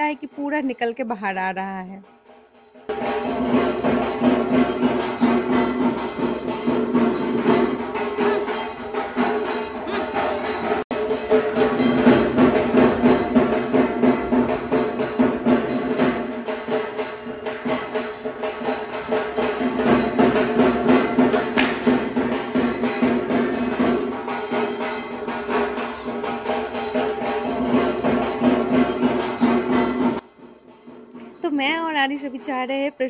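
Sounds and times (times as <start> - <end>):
music with steady drumming: 0.0 - 33.0.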